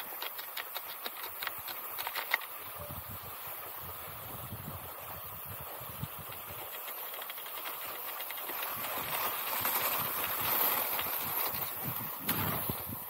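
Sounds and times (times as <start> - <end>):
skis hissing on snow: 0.0 - 13.0.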